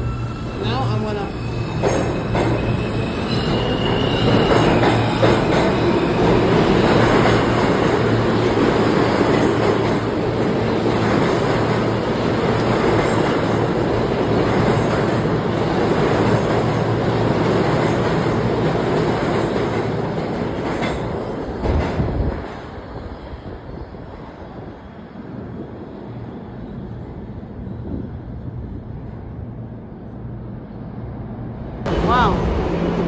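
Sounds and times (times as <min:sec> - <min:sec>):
subway train wheels rumbling: 0:00.0 - 0:33.0.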